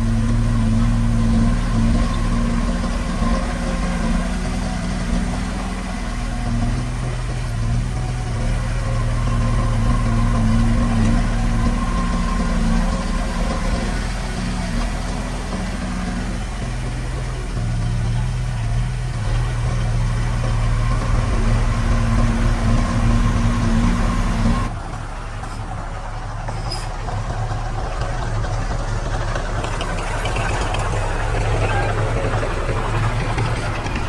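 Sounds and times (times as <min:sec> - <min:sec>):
heavy diesel machinery engine: 0:00.0 - 0:34.0.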